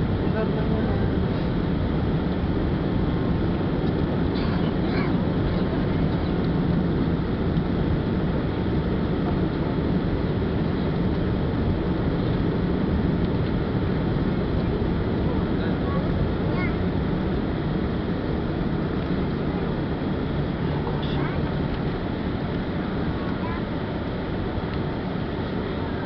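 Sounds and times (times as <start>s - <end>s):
jet engines humming: 0.0s - 26.0s.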